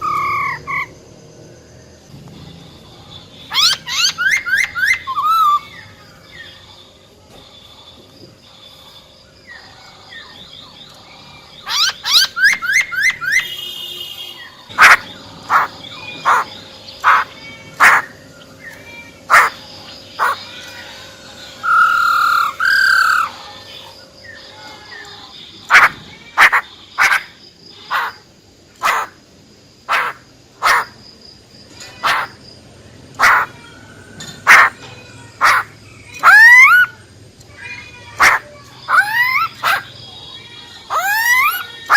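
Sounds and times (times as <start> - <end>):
bird calling: 0.0 - 1.0, 2.4 - 6.6, 9.4 - 29.2, 29.8 - 31.0, 31.8 - 32.4, 33.0 - 40.0, 40.8 - 41.9.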